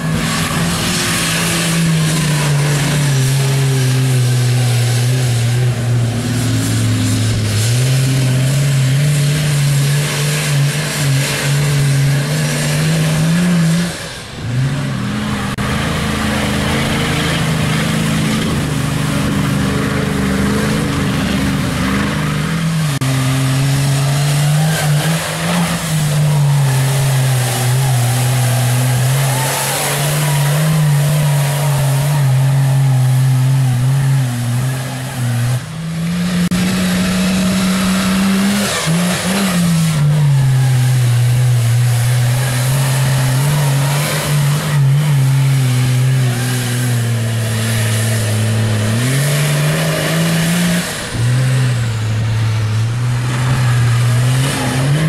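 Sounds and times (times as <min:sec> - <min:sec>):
truck engines revving in mud: 0:00.0 - 0:55.0.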